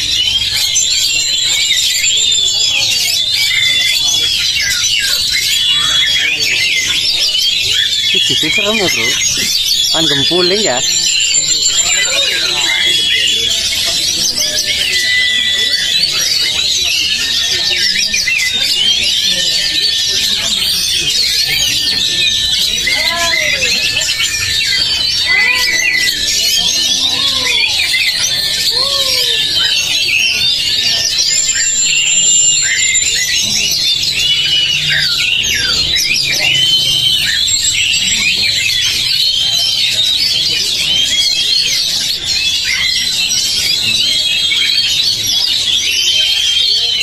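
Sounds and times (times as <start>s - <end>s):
low arching bird calls: 0.0s - 47.0s
songbirds whistling and trilling: 0.0s - 47.0s.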